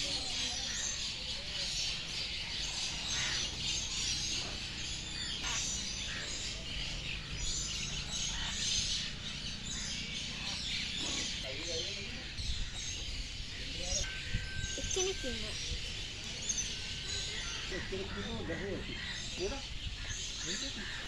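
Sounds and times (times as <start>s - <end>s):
dense bird chorus: 0.0s - 21.0s.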